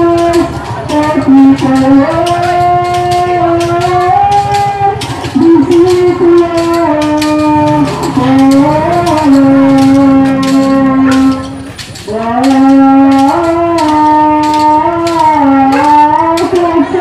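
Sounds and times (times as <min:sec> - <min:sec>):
sustained melodic tone: 0:00.0 - 0:17.0.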